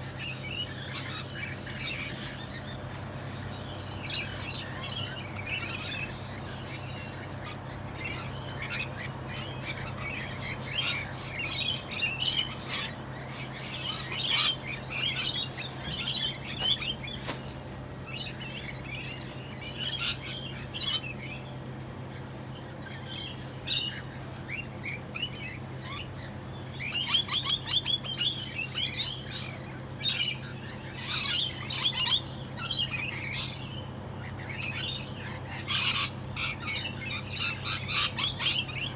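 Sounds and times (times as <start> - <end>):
parrots chirping and squawking: 0.1 - 38.9.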